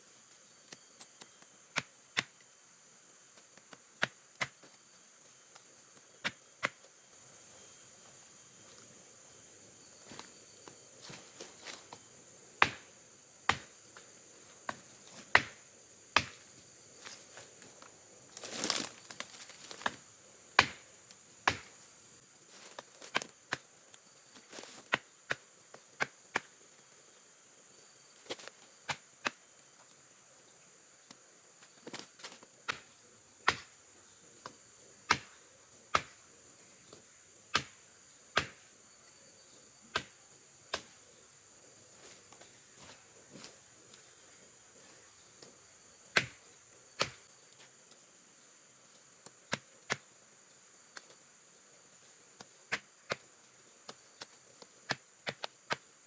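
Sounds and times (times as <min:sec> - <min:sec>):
high insect hum: 0:00.0 - 0:56.0.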